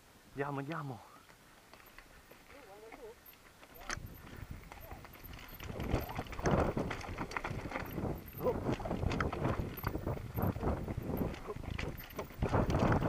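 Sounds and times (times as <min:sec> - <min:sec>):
bike rattling: 0:01.6 - 0:13.0.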